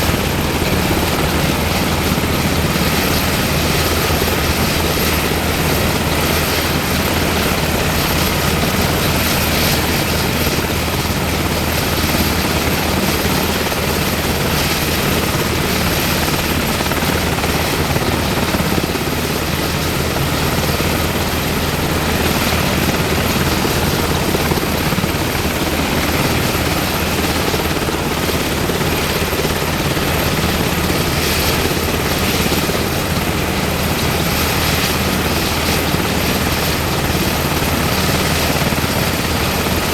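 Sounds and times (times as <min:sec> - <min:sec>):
helicopter engines and rotors: 0:00.0 - 0:39.9.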